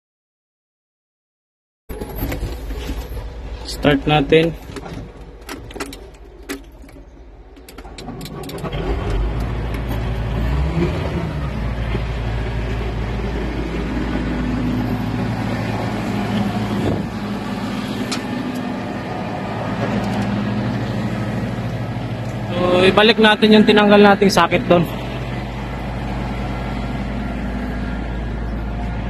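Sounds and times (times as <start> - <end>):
diesel engine starting and idling: 1.9 - 29.0.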